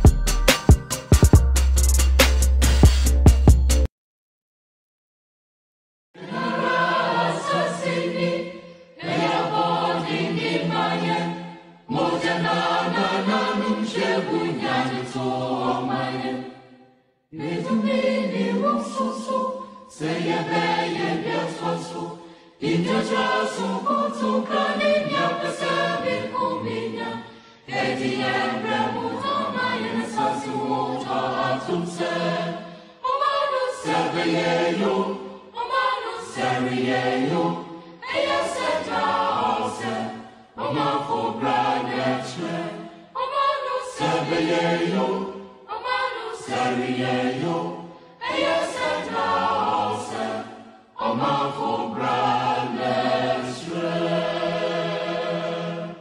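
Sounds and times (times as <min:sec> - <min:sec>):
choir singing: 0:06.2 - 0:56.0.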